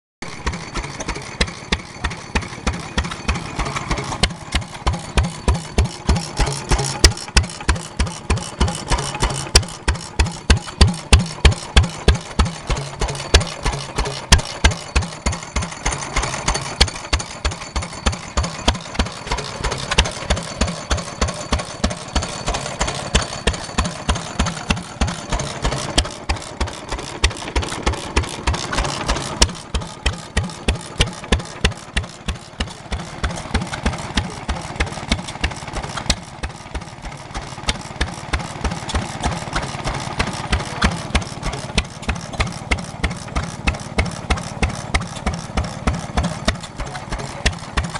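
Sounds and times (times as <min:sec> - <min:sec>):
engine mechanical clatter: 0:00.2 - 0:47.9.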